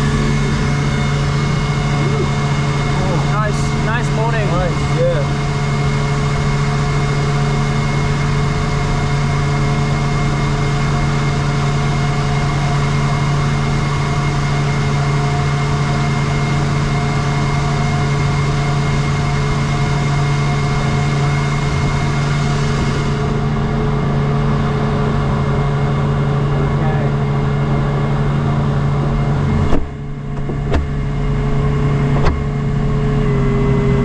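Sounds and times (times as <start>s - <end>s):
watercraft engine running: 0.0s - 34.0s.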